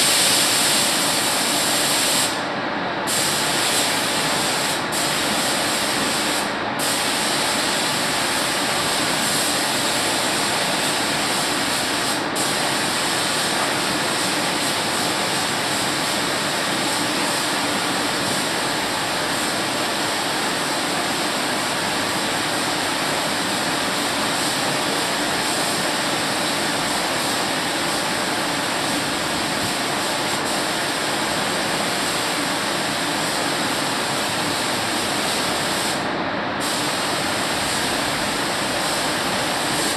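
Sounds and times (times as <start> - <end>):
paint spray gun hissing: 0.0 - 2.4, 3.1 - 36.0, 36.6 - 39.9.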